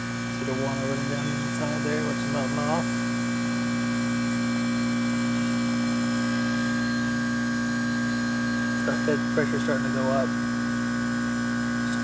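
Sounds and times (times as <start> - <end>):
heat pump compressor humming: 0.0 - 12.0.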